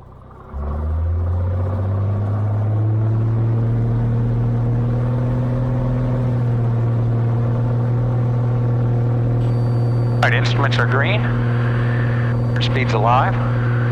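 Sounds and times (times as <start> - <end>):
propeller plane engine at full power: 0.0 - 13.9.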